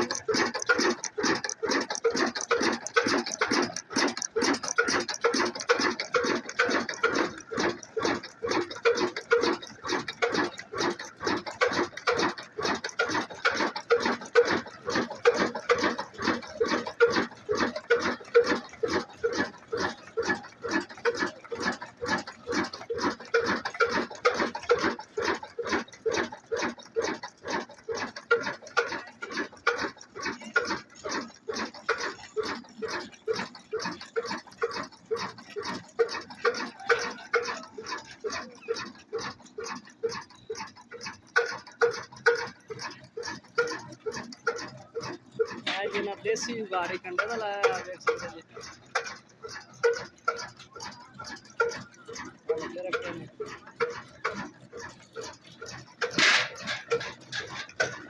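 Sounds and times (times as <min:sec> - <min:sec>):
diesel engine driving flour mill: 0:00.0 - 0:58.0.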